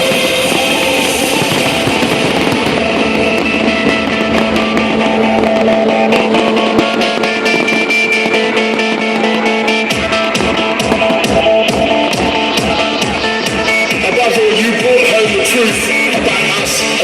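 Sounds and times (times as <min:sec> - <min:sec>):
dense crackle: 0:00.0 - 0:16.9
loud guitar-led music: 0:00.0 - 0:17.0.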